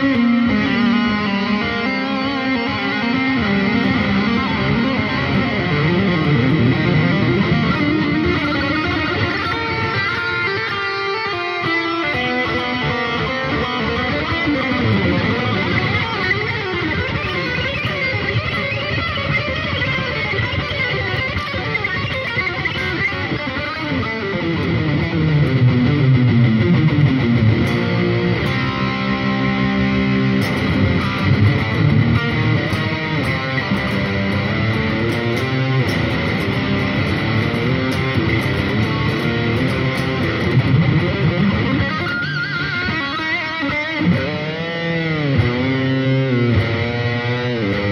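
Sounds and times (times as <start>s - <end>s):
electric guitar lead with overdrive: 0.0s - 47.9s.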